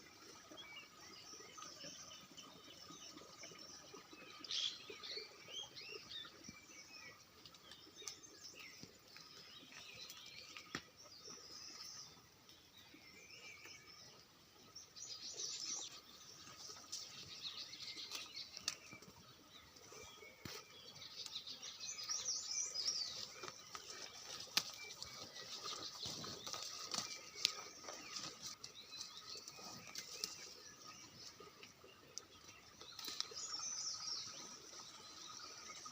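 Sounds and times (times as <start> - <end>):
birds chirping and twittering: 0.0 - 35.9.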